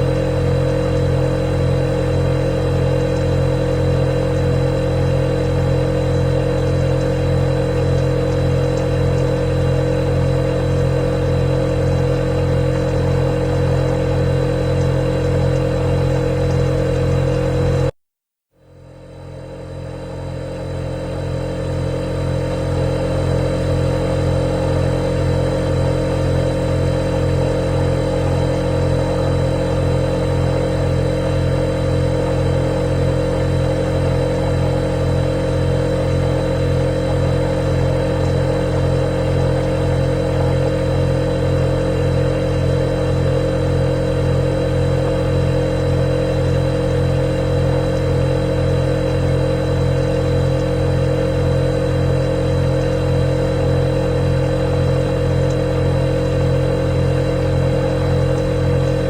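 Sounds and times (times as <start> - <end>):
refrigerator humming: 0.0 - 18.0, 18.6 - 59.0.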